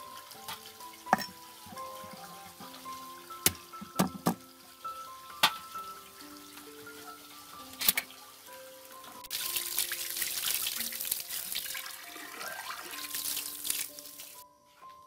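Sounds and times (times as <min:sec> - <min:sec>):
hose water splashing on stone: 0:00.0 - 0:14.4.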